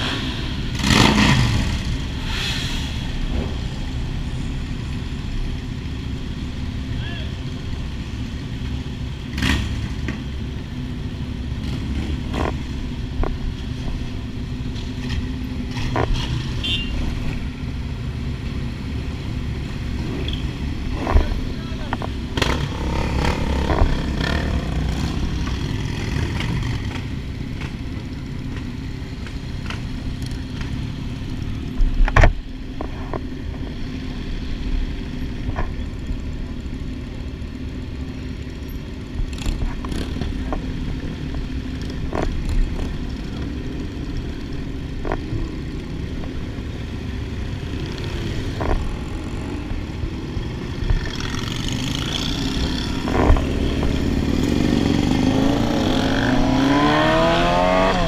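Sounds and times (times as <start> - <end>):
motorcycle engines idling: 3.1 - 55.9.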